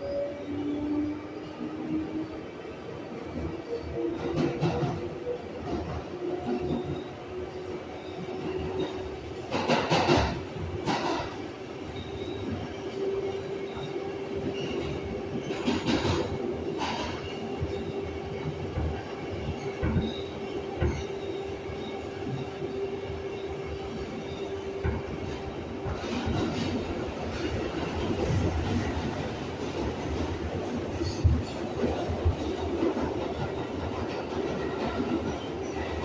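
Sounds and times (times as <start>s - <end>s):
rumbling rail noise: 0.0s - 36.0s
subway train hum: 0.0s - 36.0s
train clattering: 3.7s - 36.0s.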